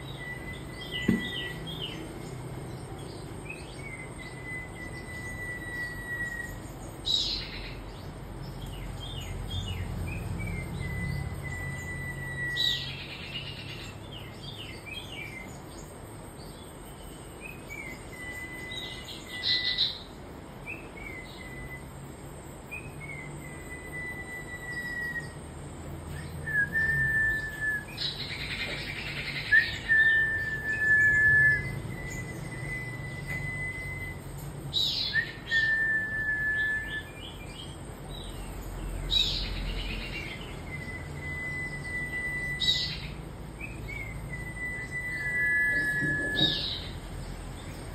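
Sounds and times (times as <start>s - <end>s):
songbird whistling and chirping: 0.0s - 22.1s, 22.7s - 47.9s.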